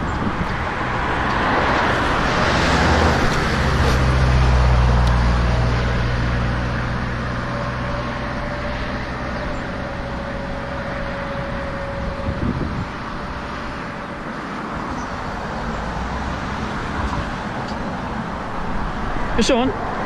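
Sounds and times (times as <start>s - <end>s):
motor vehicle passing: 0.0s - 20.0s.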